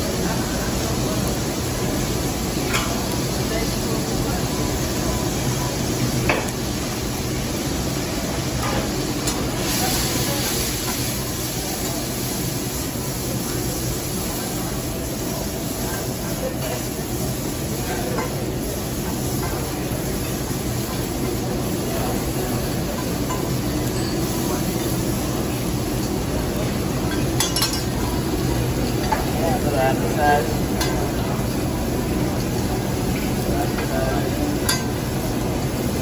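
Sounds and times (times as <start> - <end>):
food sizzling on griddle: 0.0 - 36.0.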